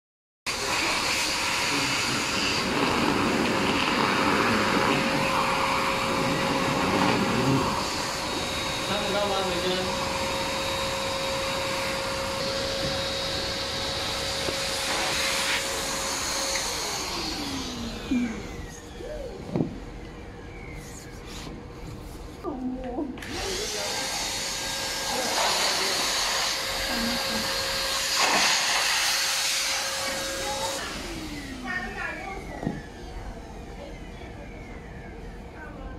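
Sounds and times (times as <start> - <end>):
electric air blower running: 0.5 - 35.9.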